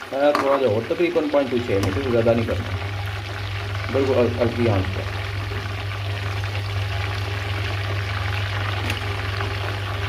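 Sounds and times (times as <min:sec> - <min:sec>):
chicken deep-frying in oil: 0:00.0 - 0:10.0.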